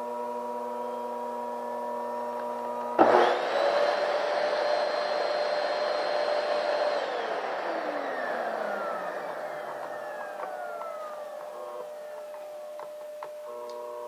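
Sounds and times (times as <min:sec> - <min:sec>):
vacuum cleaner motor running: 0:00.0 - 0:14.0.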